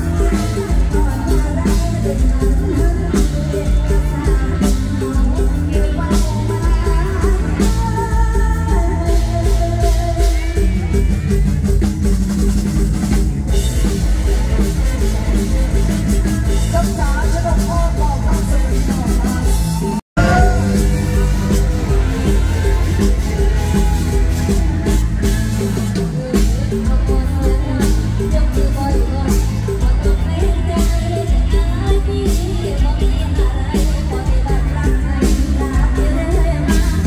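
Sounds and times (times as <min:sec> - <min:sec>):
person singing: 0:00.0 - 0:11.9, 0:13.5 - 0:37.0
drum kit beat: 0:00.0 - 0:37.0
live band playing: 0:00.0 - 0:37.0.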